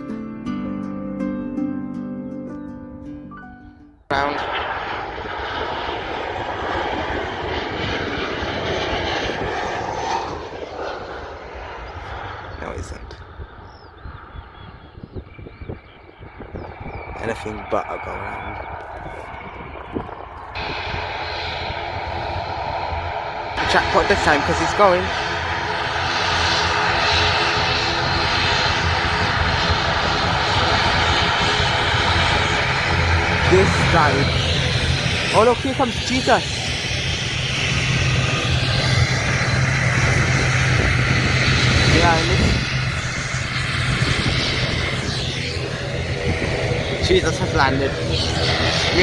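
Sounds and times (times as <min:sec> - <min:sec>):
jet engines at high power: 0:04.1 - 0:49.0.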